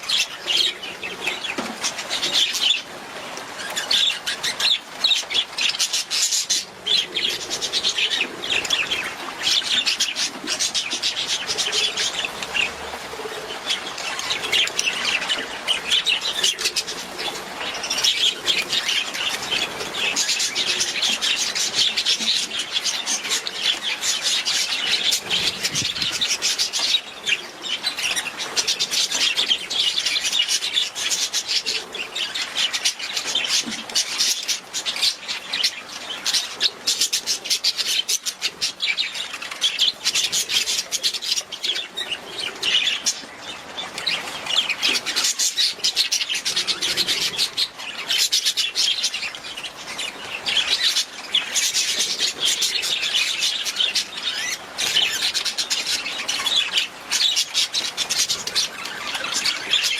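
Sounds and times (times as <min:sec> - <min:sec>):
budgerigars chattering and warbling: 0:00.0 - 0:59.9.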